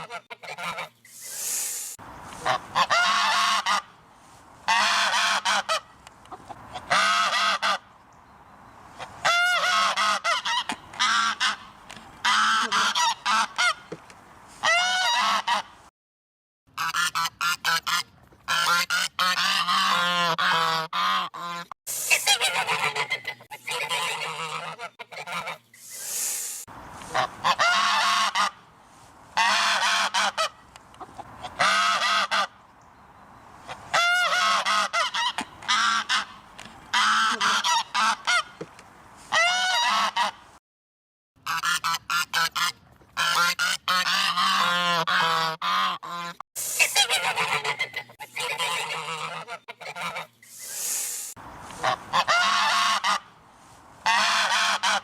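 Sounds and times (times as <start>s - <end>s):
geese honking: 0.0s - 1.6s, 2.3s - 4.0s, 4.6s - 7.9s, 9.2s - 13.9s, 14.6s - 15.7s, 16.8s - 26.2s, 27.0s - 28.7s, 29.3s - 32.6s, 33.7s - 38.6s, 39.3s - 40.4s, 41.5s - 50.8s, 51.7s - 53.4s, 54.0s - 55.0s.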